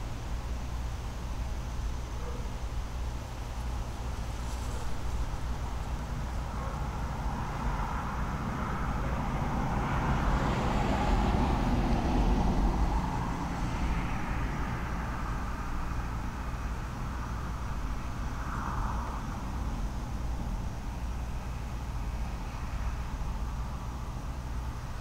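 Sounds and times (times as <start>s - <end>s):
gusty wind through trees: 0.0s - 25.0s.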